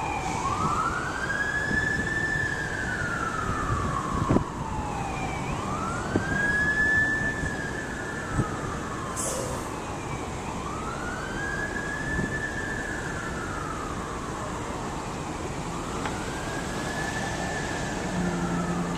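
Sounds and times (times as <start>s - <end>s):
fire engine siren wailing: 0.0s - 18.9s.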